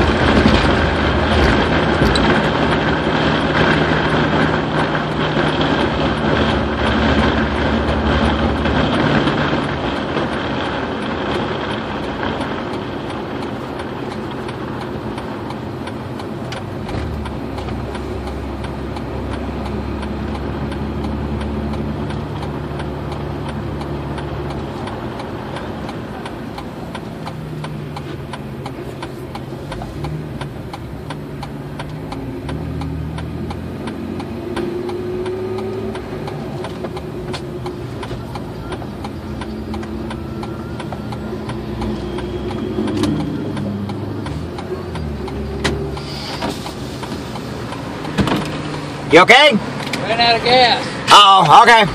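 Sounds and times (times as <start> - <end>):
tyre and engine drone: 0.0 - 51.9.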